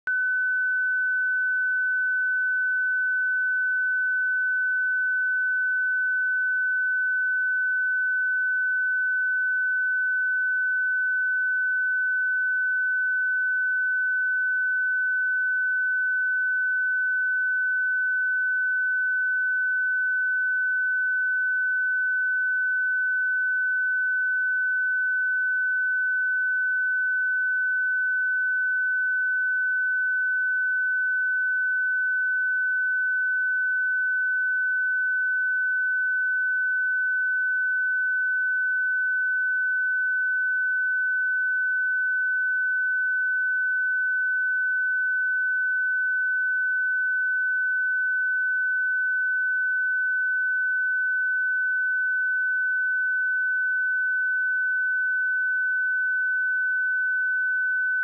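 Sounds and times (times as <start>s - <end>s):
sine wave test tone: 0.0s - 58.0s.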